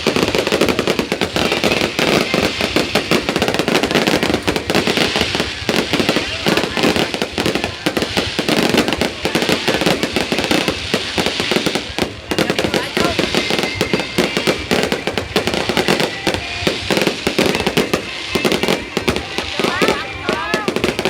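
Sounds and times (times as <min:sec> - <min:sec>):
crowd voices: 0:00.0 - 0:21.0
fireworks bangs and crackles: 0:00.0 - 0:21.0.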